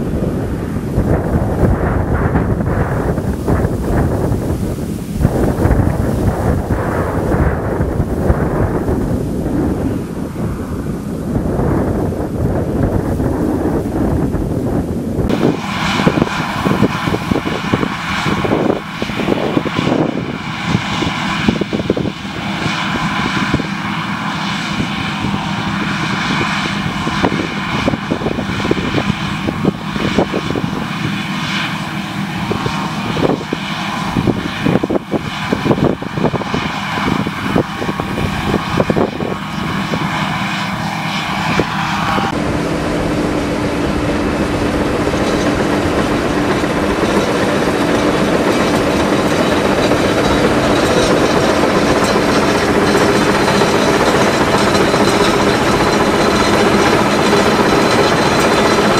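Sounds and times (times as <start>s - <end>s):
combine harvester drone: 0.0s - 58.9s
steady low hum: 0.0s - 58.9s.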